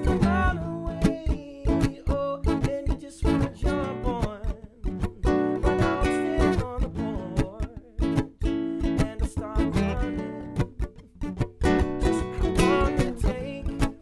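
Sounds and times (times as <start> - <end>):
man singing: 0.0 - 10.9, 11.6 - 14.0
acoustic guitar strumming: 0.0 - 14.0.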